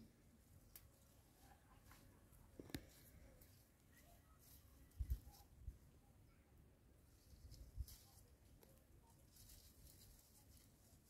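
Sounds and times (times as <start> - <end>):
leaves rustling: 0.0 - 5.9, 7.0 - 11.0.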